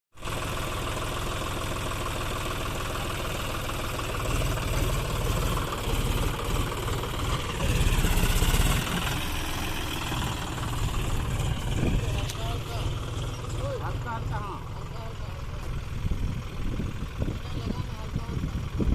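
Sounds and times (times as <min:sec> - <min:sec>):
tractor diesel engine running: 0:00.1 - 0:18.9.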